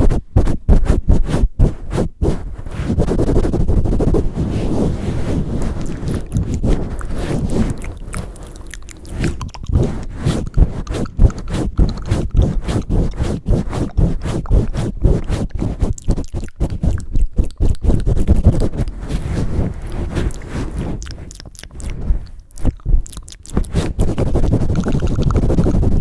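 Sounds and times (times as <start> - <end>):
scratching strokes with thumps: 0.0 - 26.0
soft low rustling on microphone: 0.0 - 26.0.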